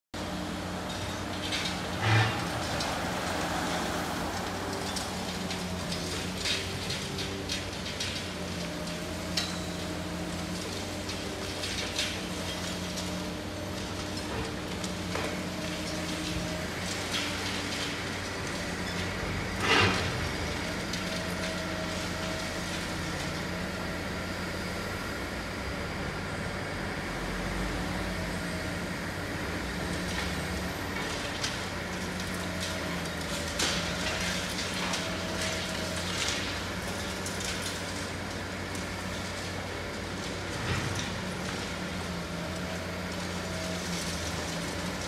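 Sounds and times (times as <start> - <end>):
excavator diesel engine and hydraulics: 0.2 - 45.0.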